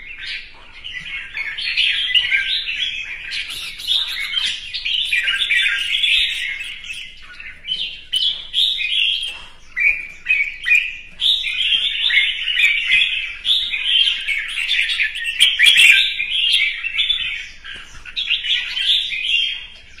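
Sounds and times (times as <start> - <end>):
bird singing chattering phrases: 0.0 - 20.0.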